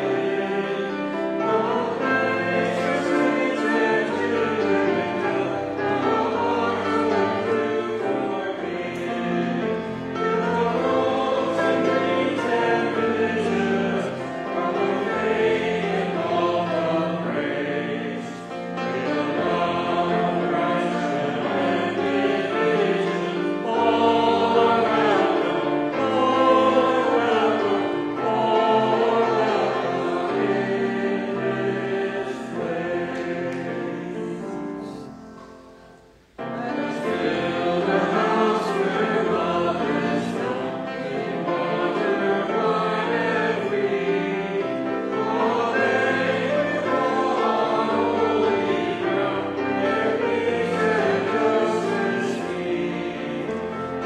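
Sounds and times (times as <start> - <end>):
group singing a hymn: 0.0 - 54.0.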